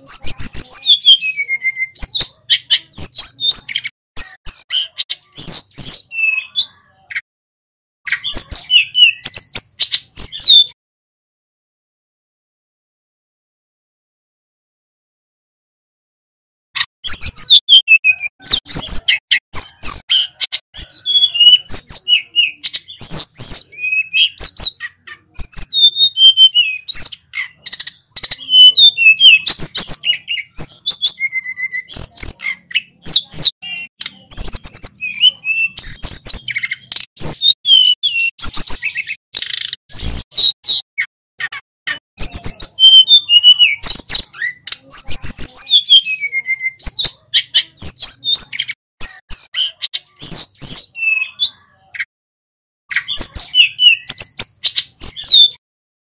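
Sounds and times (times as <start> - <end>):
bird singing whistled phrases: 0.0 - 7.2, 8.1 - 10.8, 17.0 - 52.1, 52.9 - 55.6.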